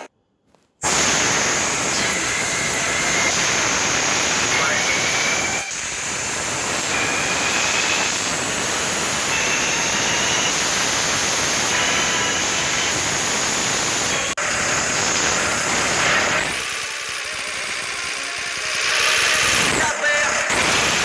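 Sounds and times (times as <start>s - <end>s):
faint high whine: 0.8s - 19.8s
loud rushing noise: 0.8s - 21.0s.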